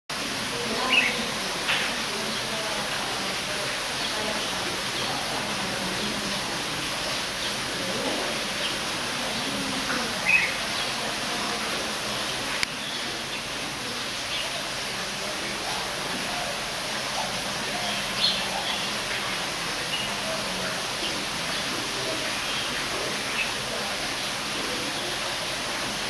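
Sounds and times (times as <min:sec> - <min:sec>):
faint distant voices: 0:00.1 - 0:26.0
small birds calling: 0:00.6 - 0:26.0.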